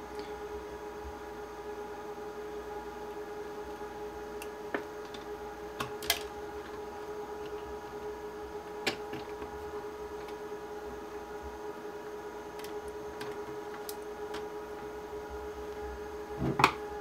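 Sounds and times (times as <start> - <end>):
steady tonal hum: 0.0 - 17.0.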